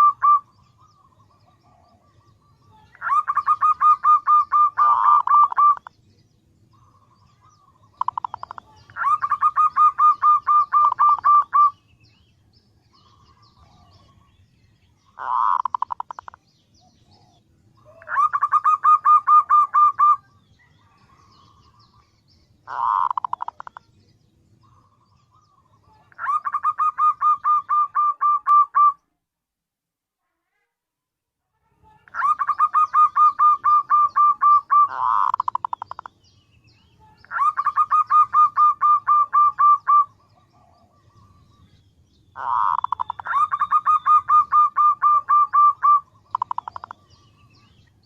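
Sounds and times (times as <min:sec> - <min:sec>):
dove calling rapid pulsed notes: 0:00.0 - 0:12.2, 0:15.0 - 0:16.4, 0:17.0 - 0:24.0, 0:24.6 - 0:29.1, 0:31.8 - 0:36.4, 0:37.0 - 0:48.0.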